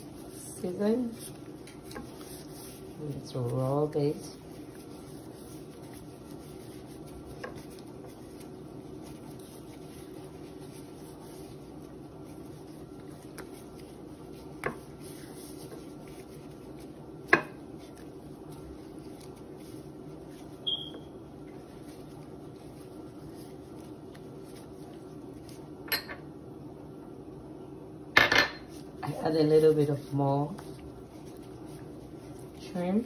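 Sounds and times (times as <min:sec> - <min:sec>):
hand rubbing fish fillets: 0:00.0 - 0:25.8, 0:28.7 - 0:33.0
steady low hum: 0:00.0 - 0:33.0.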